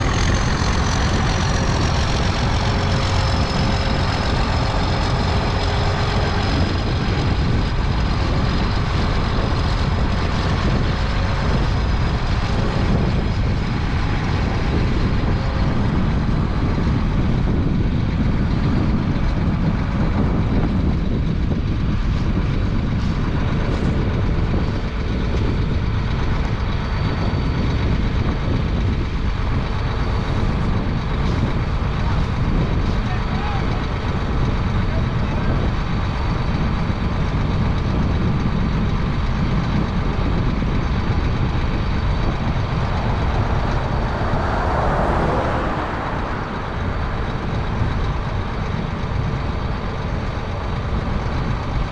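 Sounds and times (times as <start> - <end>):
combine harvester droning: 0.0 - 51.9.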